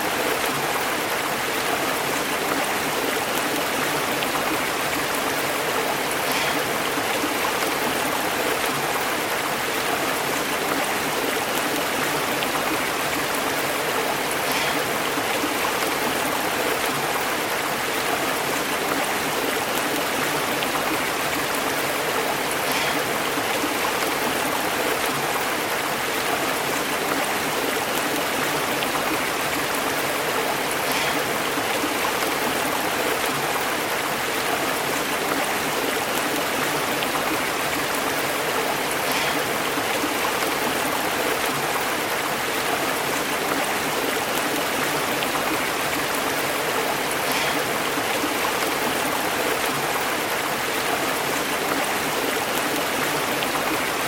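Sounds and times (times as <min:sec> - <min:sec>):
stream burbling over rocks: 0:00.0 - 0:54.0.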